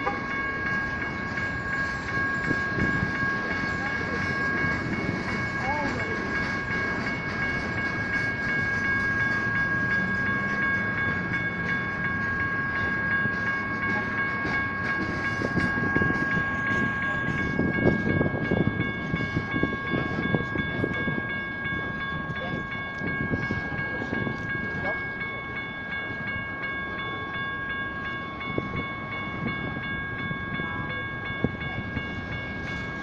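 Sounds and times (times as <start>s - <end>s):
freight cars rumbling and clattering: 0.0s - 33.0s
high bell tone: 0.0s - 33.0s
railroad crossing bells ringing: 0.0s - 33.0s.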